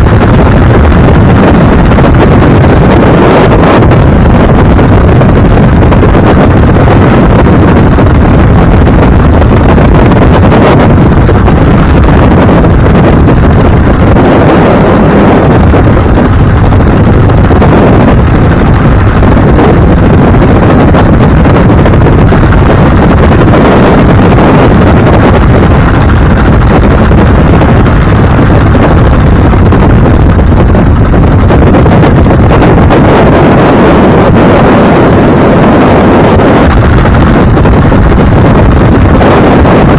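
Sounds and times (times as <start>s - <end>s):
moving vehicle rumble: 0.0s - 39.9s
wind buffeting microphone: 0.0s - 39.9s.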